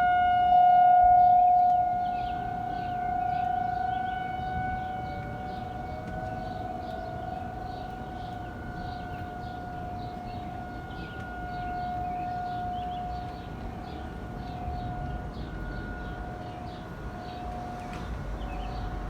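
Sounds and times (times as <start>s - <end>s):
tornado warning siren: 0.0s - 19.0s.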